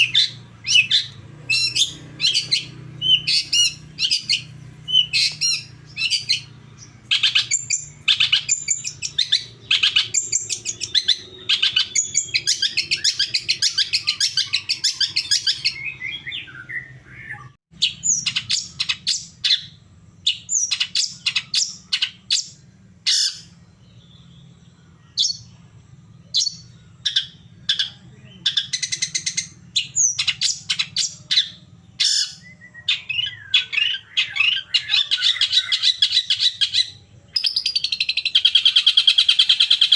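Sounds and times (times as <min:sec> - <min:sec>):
bird chirps and chattering trills: 0:00.0 - 0:25.6, 0:26.2 - 0:39.9.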